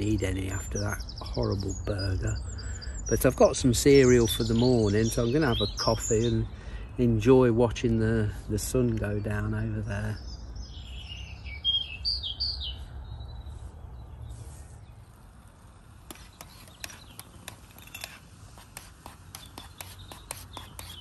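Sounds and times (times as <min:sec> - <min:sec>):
small bird chirping: 0:00.0 - 0:06.8, 0:09.0 - 0:21.0.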